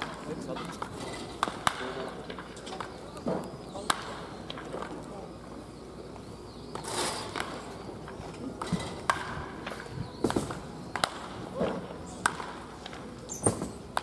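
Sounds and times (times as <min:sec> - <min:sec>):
bats hitting balls: 0:00.0 - 0:05.1, 0:06.7 - 0:14.0.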